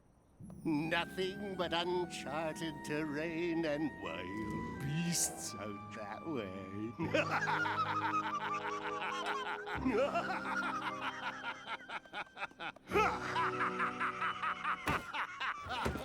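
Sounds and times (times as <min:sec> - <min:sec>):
background music: 0:00.4 - 0:16.0.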